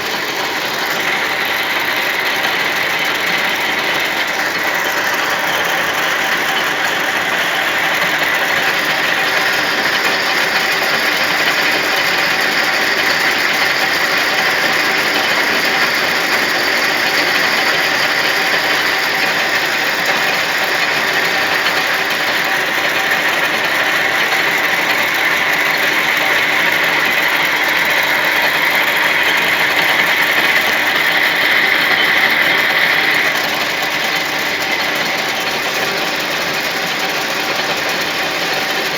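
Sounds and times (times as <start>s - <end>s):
lathe humming: 0.0s - 38.9s.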